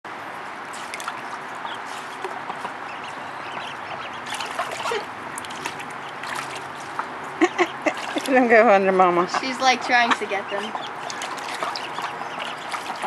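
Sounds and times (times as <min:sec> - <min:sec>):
water trickling and lapping: 0:00.1 - 0:13.0
small splashes and drips: 0:00.4 - 0:08.7, 0:10.0 - 0:13.0.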